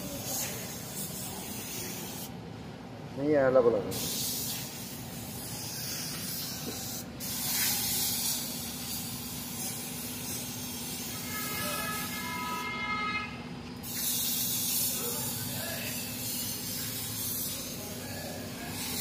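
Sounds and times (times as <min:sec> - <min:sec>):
paint spray gun hissing: 0:00.0 - 0:02.4, 0:03.9 - 0:12.1, 0:13.8 - 0:19.0.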